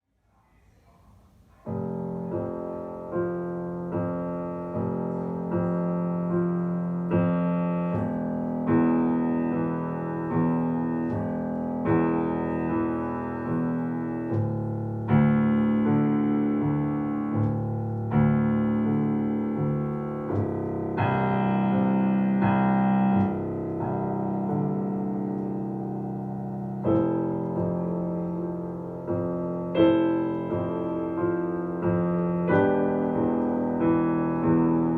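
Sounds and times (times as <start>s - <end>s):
slow solo piano chords: 1.3s - 34.9s.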